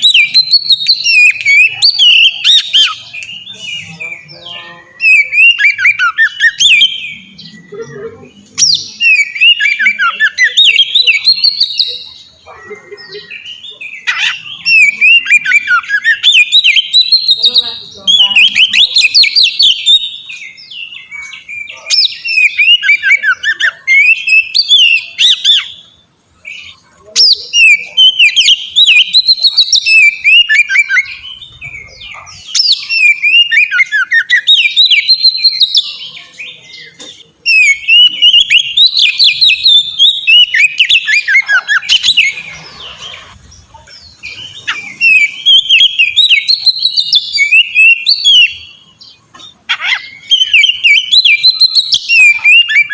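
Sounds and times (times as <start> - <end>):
bird singing whistles and chatter: 0.0 - 52.9.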